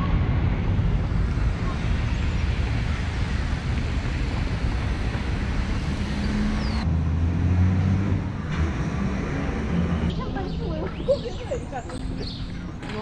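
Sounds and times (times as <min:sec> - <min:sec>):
low engine hum: 0:00.0 - 0:13.0
traffic rumble: 0:00.0 - 0:13.0.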